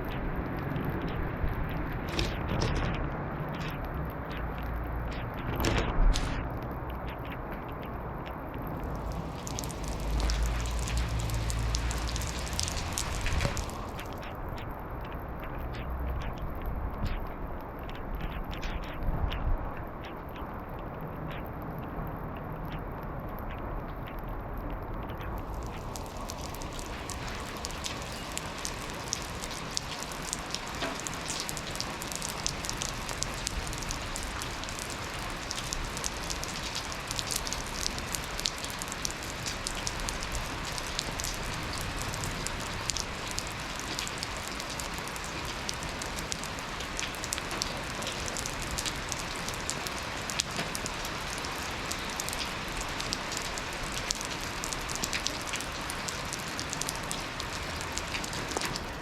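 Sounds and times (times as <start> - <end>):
raindrops ticking sharply: 0.0 - 59.0
steady rain falling: 0.0 - 59.0.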